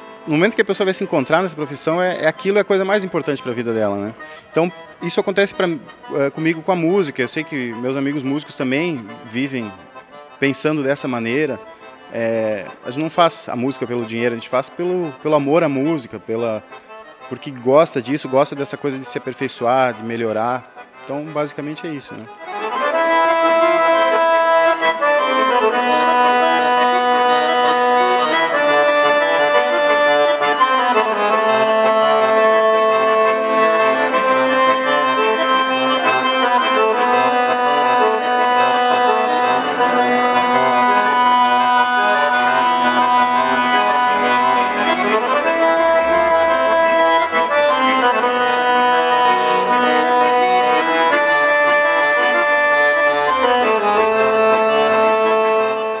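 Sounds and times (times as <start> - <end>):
accordion playing slow chords: 0.0 - 56.0.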